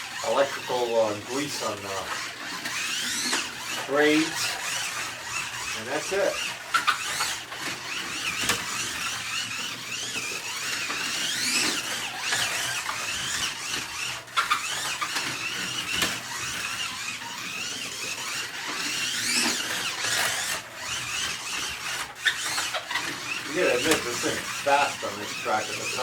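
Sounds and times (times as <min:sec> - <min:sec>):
slot car motor whining: 0:00.0 - 0:26.0.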